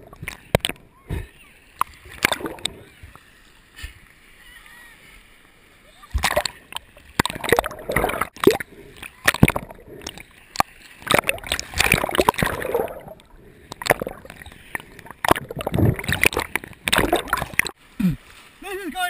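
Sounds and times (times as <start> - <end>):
water splashing and gurgling: 0.0 - 18.6
churning water surges: 0.0 - 19.0.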